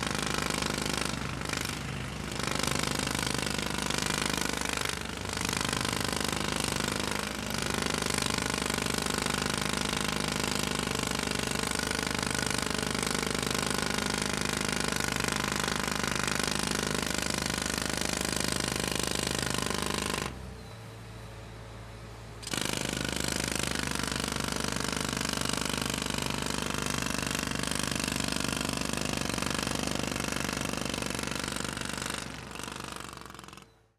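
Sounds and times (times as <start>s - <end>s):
jackhammer hammering: 0.0s - 20.4s, 22.4s - 33.8s.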